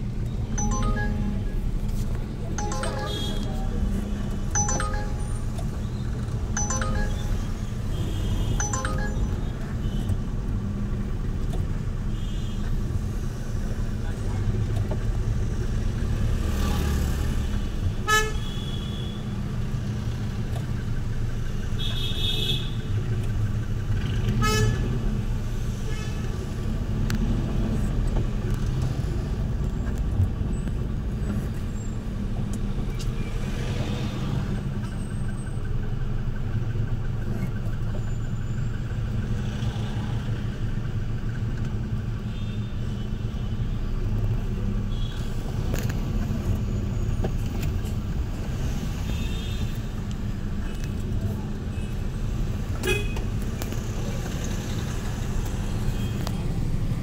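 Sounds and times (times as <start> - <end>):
engine and road noise rumble: 0.0 - 57.0.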